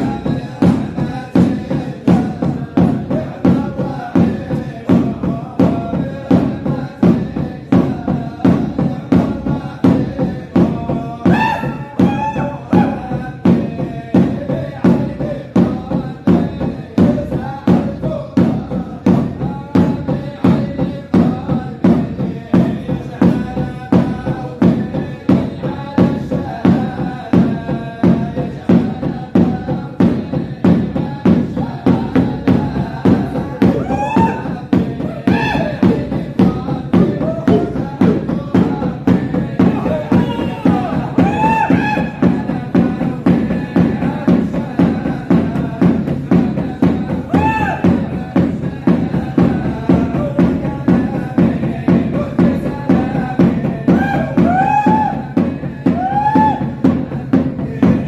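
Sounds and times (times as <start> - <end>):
men's group chanting: 0.0 - 58.0
steady pulse of beats: 0.0 - 58.0.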